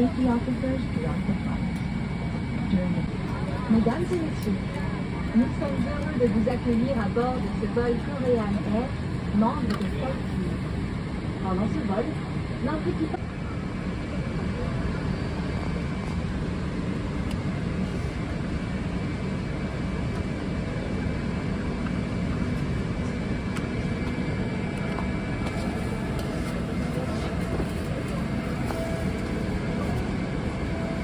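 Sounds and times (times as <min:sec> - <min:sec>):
airplane cabin rumble and air hiss: 0:00.0 - 0:31.0.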